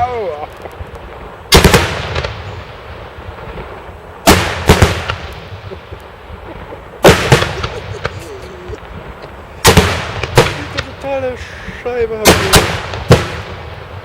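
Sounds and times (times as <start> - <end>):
fireworks bangs echoing: 0.0 - 14.0
fireworks crackling: 0.0 - 14.0.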